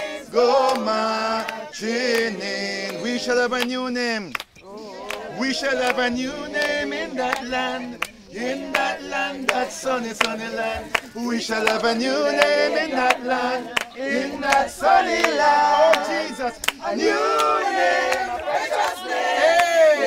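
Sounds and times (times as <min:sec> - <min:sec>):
choir singing gospel song: 0:00.0 - 0:03.8, 0:04.6 - 0:20.0.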